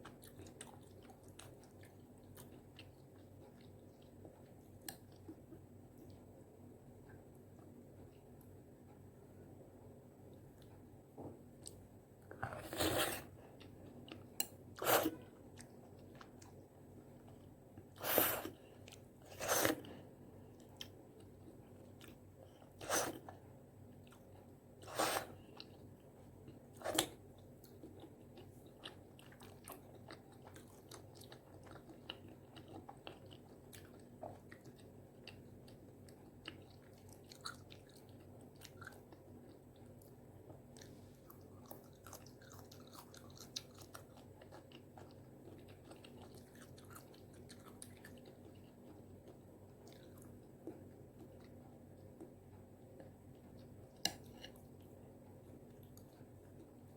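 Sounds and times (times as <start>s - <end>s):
chewing with wet clicks: 0.0s - 6.3s, 13.5s - 14.8s, 15.5s - 18.0s, 18.6s - 19.1s, 19.7s - 24.6s, 25.4s - 56.9s.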